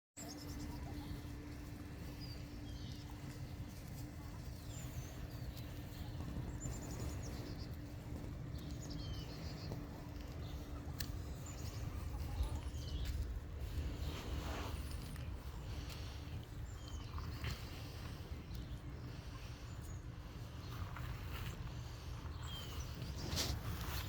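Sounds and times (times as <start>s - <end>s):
birds chirping: 0.2s - 24.0s
faint hum: 0.2s - 24.0s.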